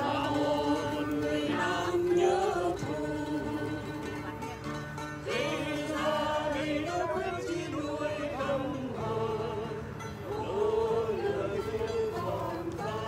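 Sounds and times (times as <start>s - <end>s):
group of voices singing: 0.0s - 4.3s, 5.2s - 13.0s.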